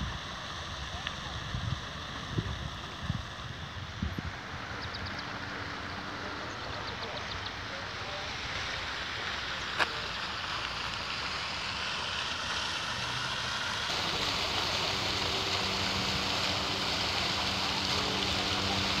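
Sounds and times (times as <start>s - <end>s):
fountain jets splashing into pool: 0.0s - 19.0s.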